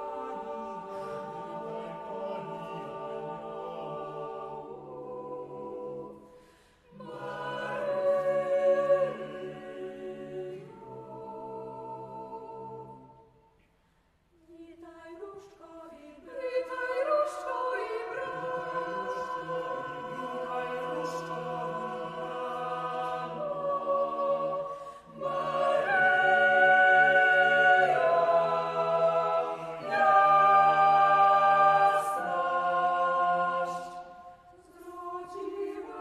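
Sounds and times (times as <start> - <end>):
mixed choir singing a cappella: 0.0 - 13.5, 14.6 - 36.0.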